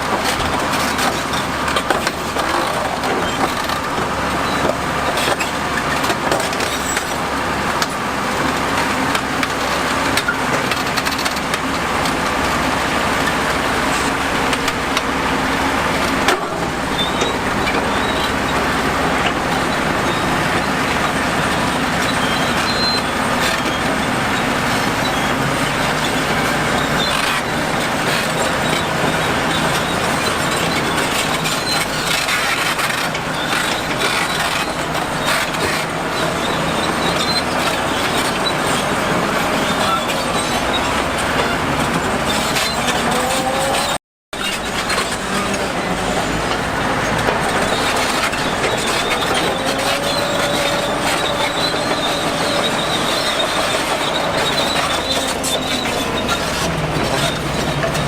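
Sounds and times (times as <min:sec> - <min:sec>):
bulldozer diesel engine: 0:00.0 - 0:58.0
steel tracks clattering: 0:00.0 - 0:58.0
track running gear squealing: 0:00.0 - 0:58.0.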